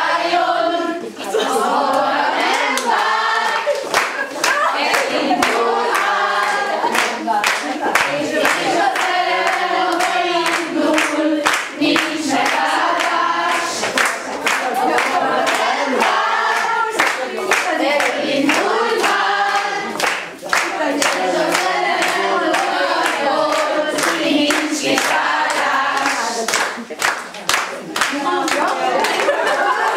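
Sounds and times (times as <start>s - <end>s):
women singing together: 0.0s - 27.2s, 28.0s - 29.9s
rhythmic hand clapping: 1.4s - 29.9s.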